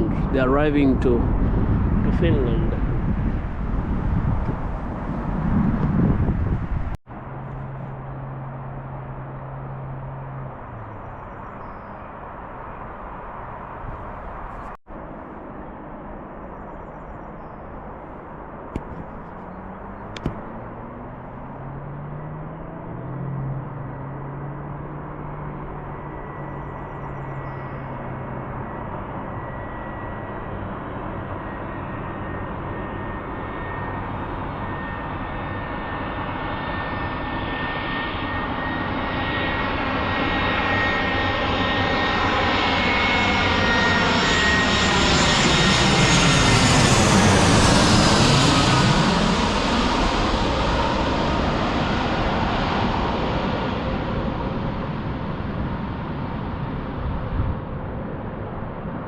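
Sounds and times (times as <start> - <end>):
jet airliner engine noise: 0.0 - 59.0.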